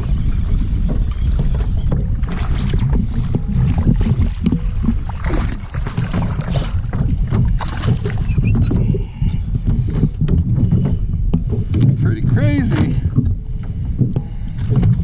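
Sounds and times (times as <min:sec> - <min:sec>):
low rumble: 0:00.0 - 0:15.0
knocks and clicks on kayak: 0:00.4 - 0:15.0.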